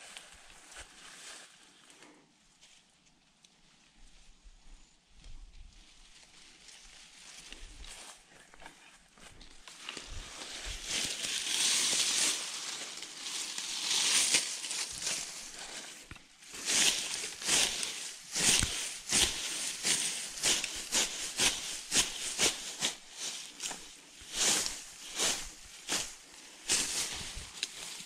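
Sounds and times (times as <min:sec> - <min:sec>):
long grass rustling: 0:00.0 - 0:28.0.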